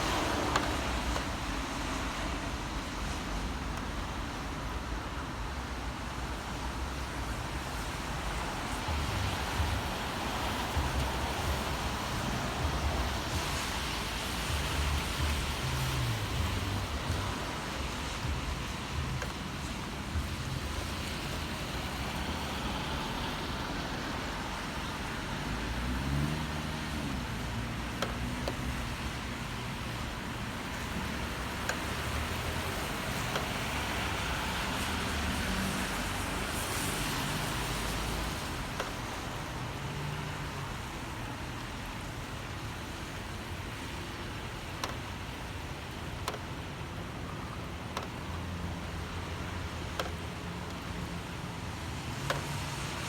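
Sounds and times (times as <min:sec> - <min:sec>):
city traffic passing: 0:00.0 - 0:53.0
steady rain: 0:00.0 - 0:53.0.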